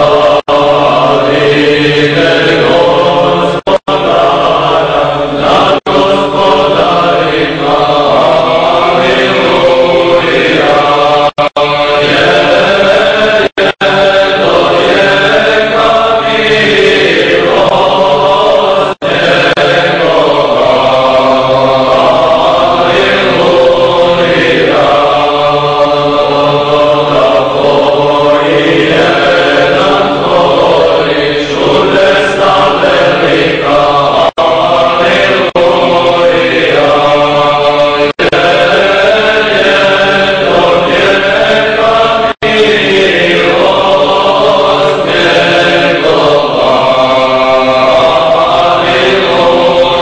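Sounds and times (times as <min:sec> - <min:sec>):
choir chanting: 0:00.0 - 0:50.0.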